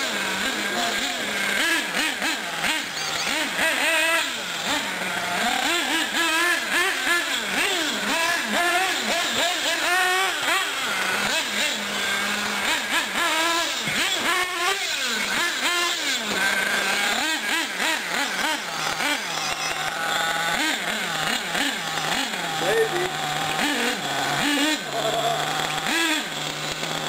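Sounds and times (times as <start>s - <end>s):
engine idling: 0.0s - 27.0s
small engines revving: 0.0s - 27.0s.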